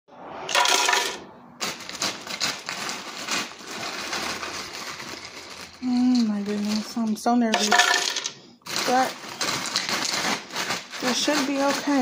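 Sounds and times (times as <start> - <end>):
ice clattering in blender pitcher: 0.5 - 12.0.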